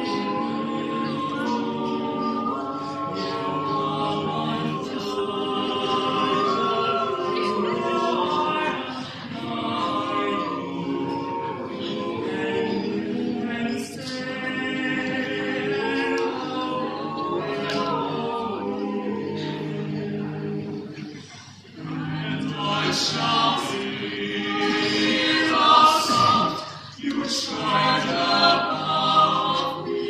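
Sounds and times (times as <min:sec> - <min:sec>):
a cappella group singing: 0:00.0 - 0:30.0
sibilant consonant: 0:00.0 - 0:30.0.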